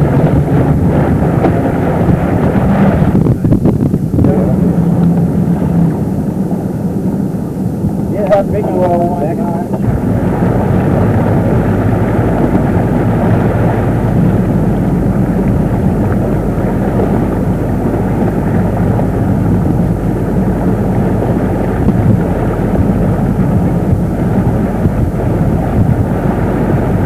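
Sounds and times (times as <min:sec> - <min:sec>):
boat engine running: 0:00.0 - 0:27.0
wind on microphone: 0:00.0 - 0:27.0.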